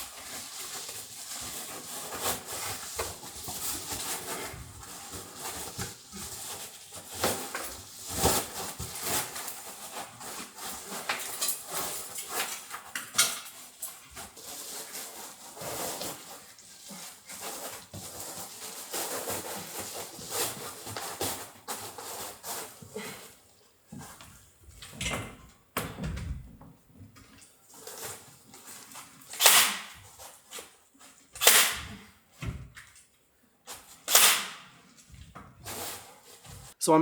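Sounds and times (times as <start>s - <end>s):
rustling and clattering: 0.0s - 36.8s.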